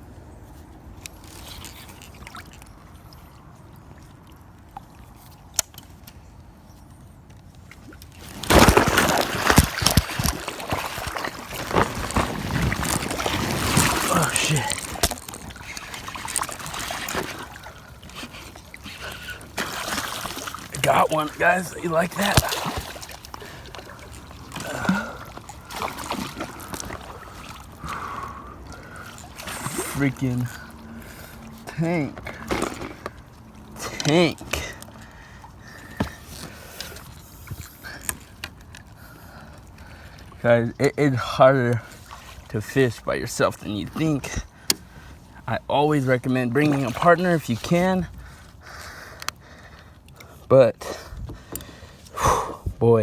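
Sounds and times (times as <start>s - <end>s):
water sloshing and lapping: 0.0s - 53.0s.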